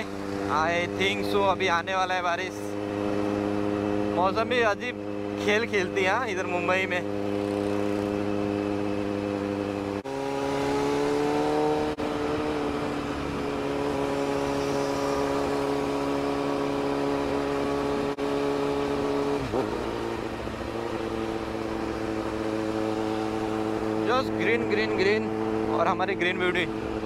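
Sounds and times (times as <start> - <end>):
motorcycle engine and exhaust: 0.0 - 27.0.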